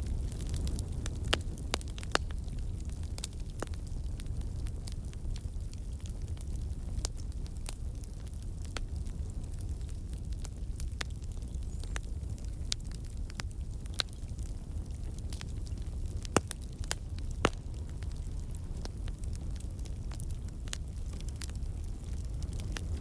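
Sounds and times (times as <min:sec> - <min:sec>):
campfire burning: 0:00.0 - 0:23.0
logs crackling and popping: 0:00.0 - 0:23.0.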